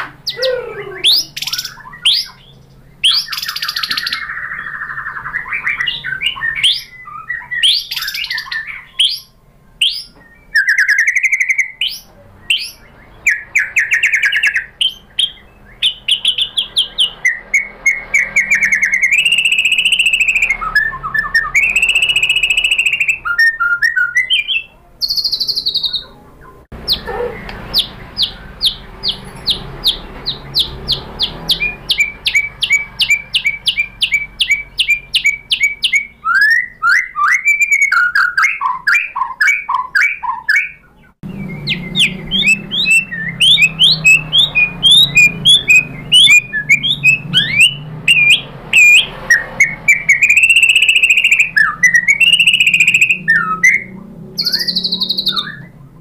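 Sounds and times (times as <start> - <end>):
bird singing whistled phrases: 0.2 - 26.2, 29.9 - 55.8.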